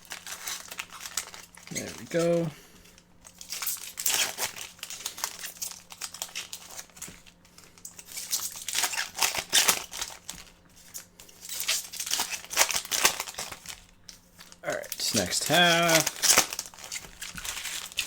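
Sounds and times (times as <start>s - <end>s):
cards rustling: 0.0s - 18.0s
wrappers crinkling: 0.0s - 18.0s.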